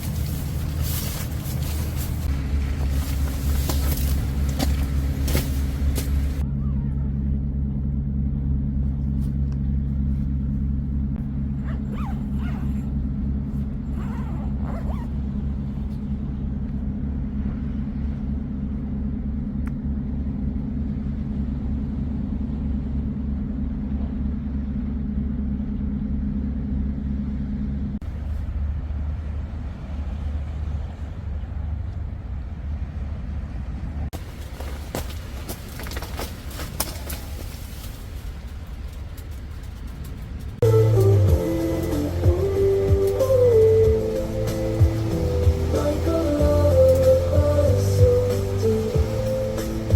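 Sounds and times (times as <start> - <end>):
low engine-like hum: 0.0 - 49.9.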